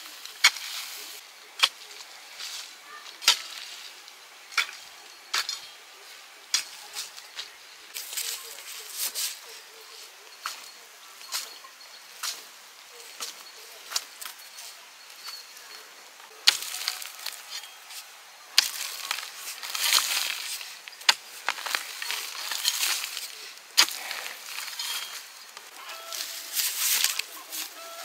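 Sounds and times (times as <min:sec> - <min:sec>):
crunching rustle: 0:00.0 - 0:28.0.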